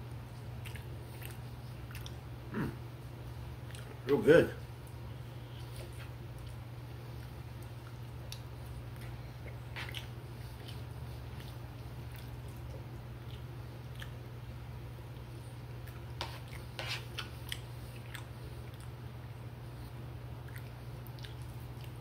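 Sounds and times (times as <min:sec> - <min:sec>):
person chewing soft food: 0:00.0 - 0:04.0, 0:04.8 - 0:22.0
steady low hum: 0:00.0 - 0:22.0.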